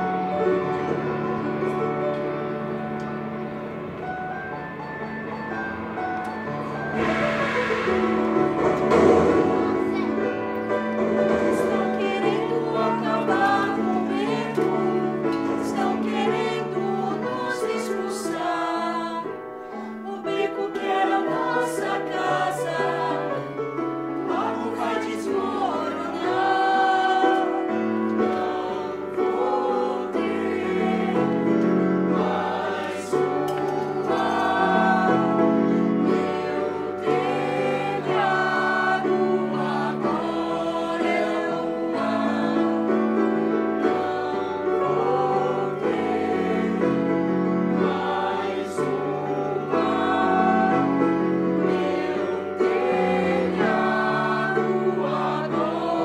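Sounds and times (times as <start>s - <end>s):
instrumental accompaniment: 0.0s - 56.0s
voices singing together: 6.3s - 56.0s.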